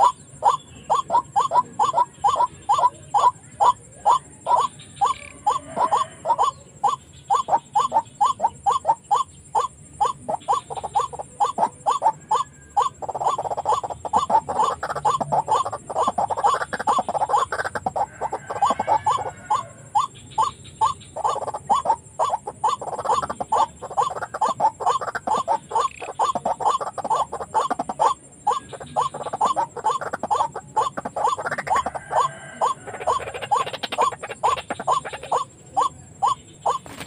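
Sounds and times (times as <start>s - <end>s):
waterhen calling: 0.0s - 37.0s.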